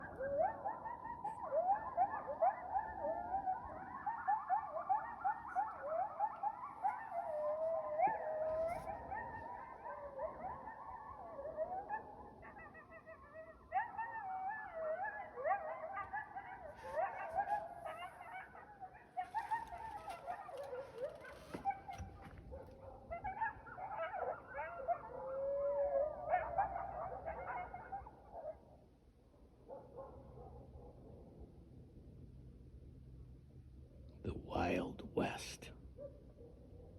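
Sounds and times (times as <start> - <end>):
coyotes howling and yipping: 0.0 - 31.4.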